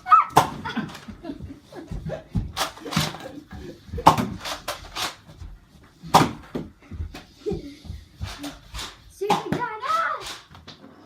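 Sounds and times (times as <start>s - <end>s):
knocks and thumps of people moving: 0.0s - 11.0s.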